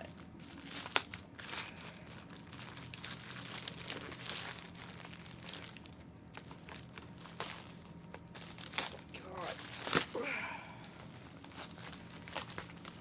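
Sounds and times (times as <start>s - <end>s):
small clicks and crackles: 0.0s - 10.2s, 10.8s - 13.0s
packaging crinkling and rustling: 0.0s - 13.0s.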